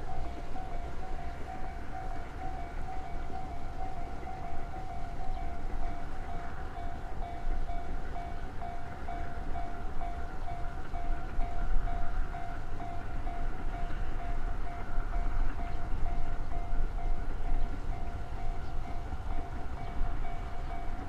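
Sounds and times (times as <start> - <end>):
steam locomotive rumbling: 0.0 - 21.0.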